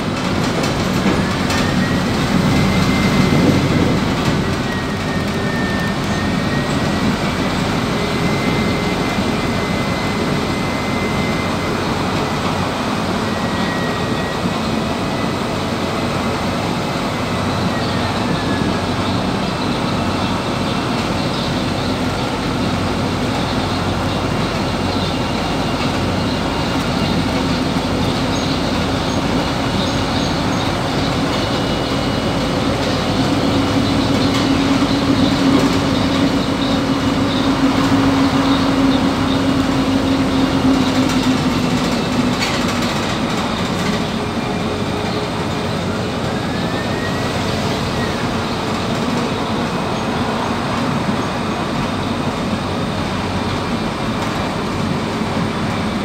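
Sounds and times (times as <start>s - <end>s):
bus engine: 0.0s - 56.0s
road noise: 0.0s - 56.0s.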